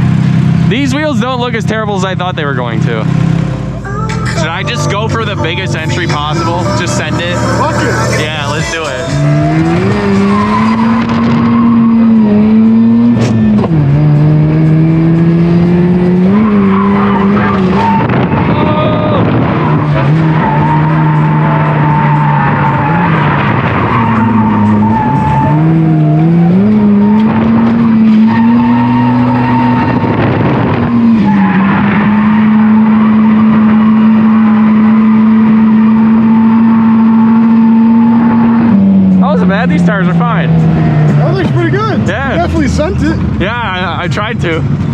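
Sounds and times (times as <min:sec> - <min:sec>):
rotary engine revving high: 0:00.0 - 0:44.9
tires squealing and skidding: 0:04.2 - 0:14.1, 0:16.0 - 0:44.9.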